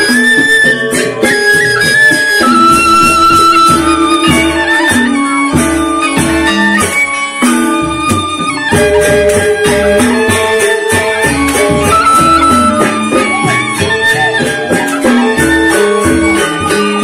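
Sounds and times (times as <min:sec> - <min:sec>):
hand drum: 0:00.0 - 0:17.0
metallophones struck with mallets: 0:00.0 - 0:17.0.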